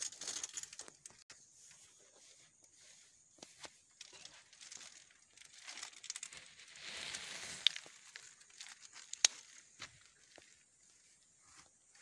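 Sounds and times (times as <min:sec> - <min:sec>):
dry fibre rustling and crackling: 0:00.0 - 0:12.0.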